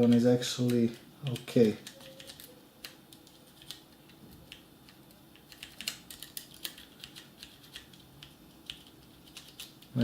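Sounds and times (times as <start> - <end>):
mechanical keyboard keys clicking: 0.0 - 9.9.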